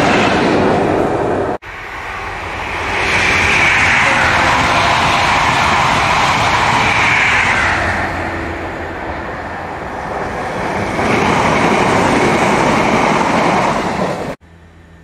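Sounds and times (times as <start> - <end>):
train passing at speed: 0.0 - 14.4
wheels rushing on rail: 0.0 - 15.0.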